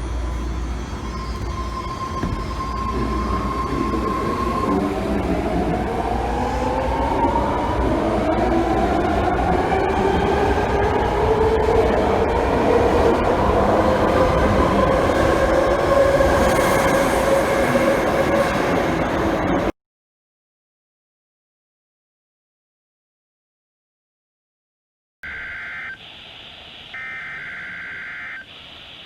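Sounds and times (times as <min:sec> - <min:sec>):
whining tones rising in pitch: 0:00.0 - 0:19.7, 0:25.2 - 0:29.0.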